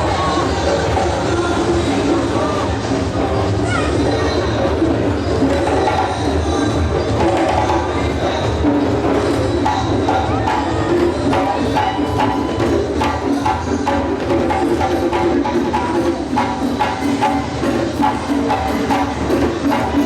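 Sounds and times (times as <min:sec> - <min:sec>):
percussion ensemble playing: 0:00.0 - 0:20.0.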